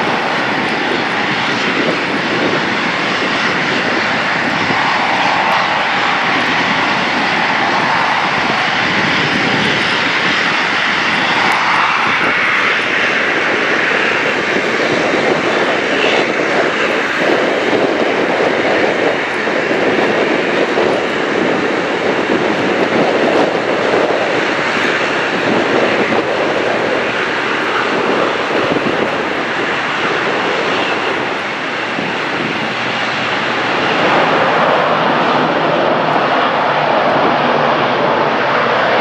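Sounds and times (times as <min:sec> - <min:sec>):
turboprop engines running: 0:00.0 - 0:39.0.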